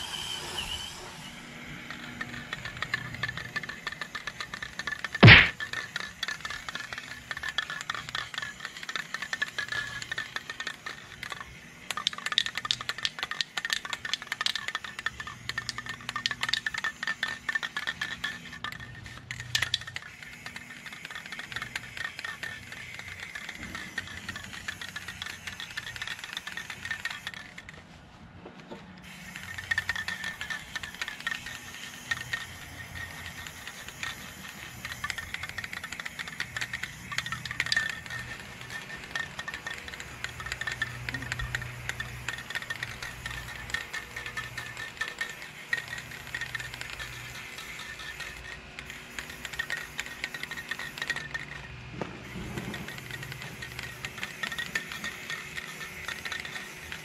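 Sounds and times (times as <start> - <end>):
spray can mixing ball rattling: 1.6 - 28.0, 29.0 - 57.0.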